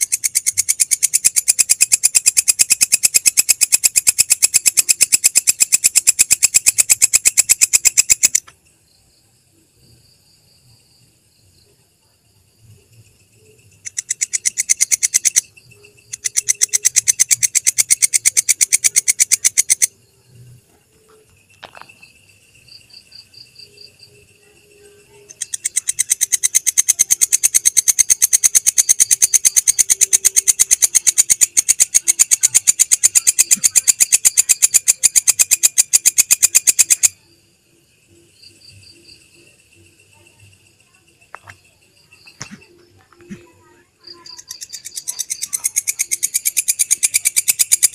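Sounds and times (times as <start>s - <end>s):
katydid ticking: 0.0s - 8.7s, 12.9s - 20.6s, 21.2s - 37.3s, 38.4s - 47.9s.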